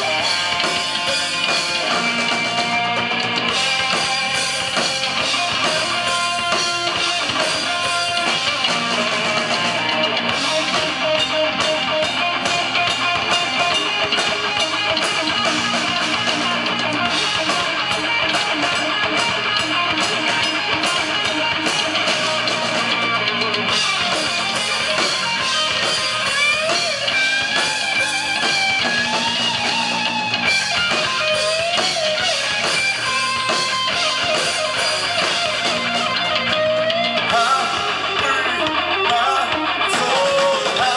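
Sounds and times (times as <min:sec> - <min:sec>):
bass guitar: 0:00.0 - 0:40.9
distorted electric guitars: 0:00.0 - 0:40.9
drums: 0:00.0 - 0:40.9
gliding lead guitar lines: 0:00.0 - 0:40.9.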